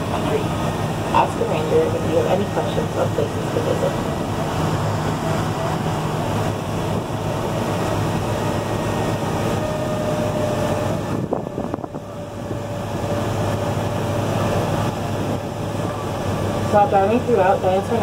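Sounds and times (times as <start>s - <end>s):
tram engine drone with whine: 0.0s - 18.0s.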